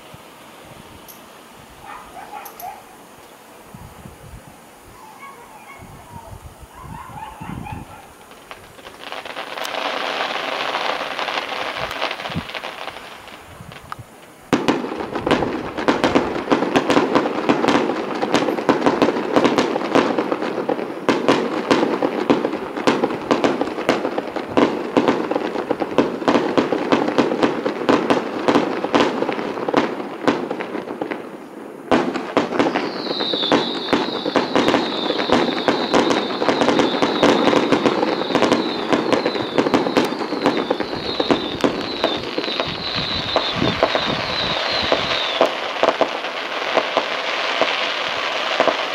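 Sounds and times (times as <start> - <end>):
fireworks bangs and crackling: 0.0 - 48.9
falling firework whistle: 1.8 - 48.9.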